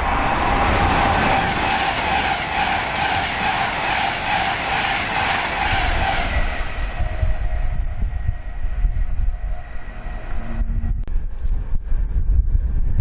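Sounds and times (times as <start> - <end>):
train passing at speed: 0.0 - 11.9
wind buffeting microphone: 0.0 - 13.0.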